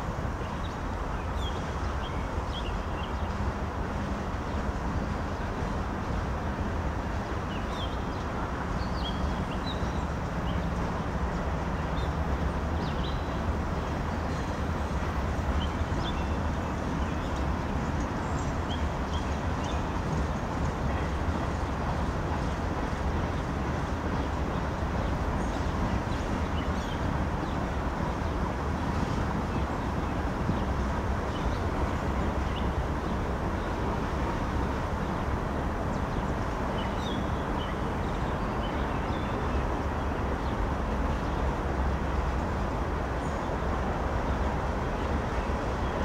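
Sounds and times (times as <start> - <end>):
train wheels rumbling on rail joints: 0.0 - 46.0.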